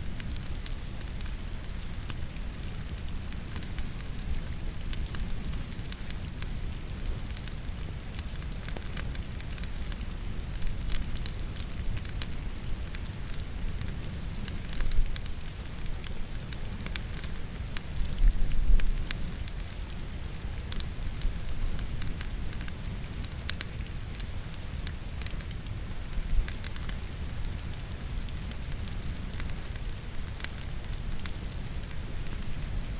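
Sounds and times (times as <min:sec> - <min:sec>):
logs crackling in fireplace: 0:00.0 - 0:32.9
steady rain: 0:00.0 - 0:32.9.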